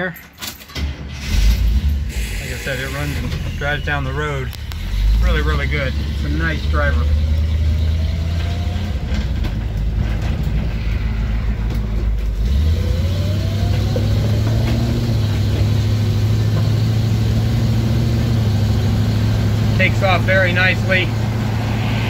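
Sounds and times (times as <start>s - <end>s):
truck engine accelerating: 1.2s - 22.0s.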